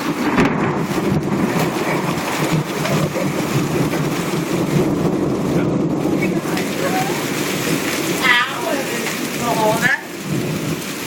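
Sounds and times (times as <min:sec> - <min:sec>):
hail and heavy rain pelting: 0:00.0 - 0:11.0
thunder rumbling: 0:00.0 - 0:11.0.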